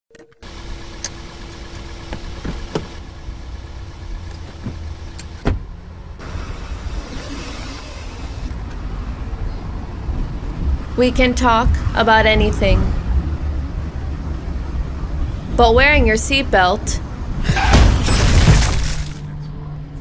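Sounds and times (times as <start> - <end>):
car interior rumble: 0.4 - 20.0.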